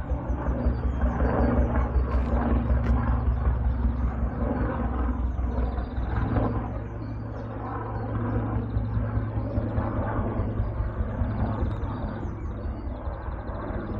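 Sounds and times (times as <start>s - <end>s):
helicopter rotor rumble: 0.0s - 13.9s.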